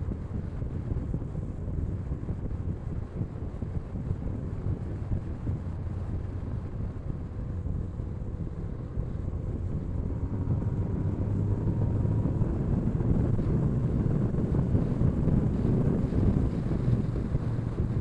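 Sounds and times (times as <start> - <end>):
motorcycle engine drone: 0.0 - 18.0
wind buffeting microphone: 0.0 - 18.0.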